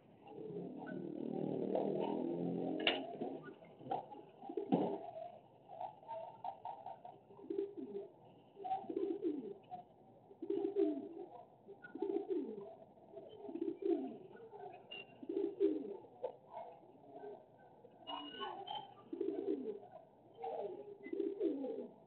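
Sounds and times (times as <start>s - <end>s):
pigeon cooing: 0.2s - 22.0s.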